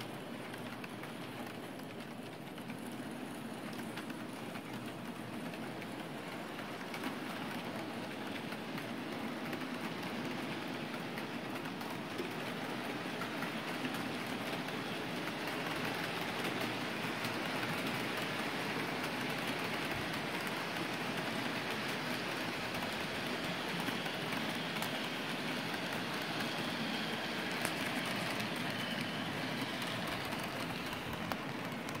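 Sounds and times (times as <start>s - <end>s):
model train wheels rattling on rails: 0.0s - 32.0s.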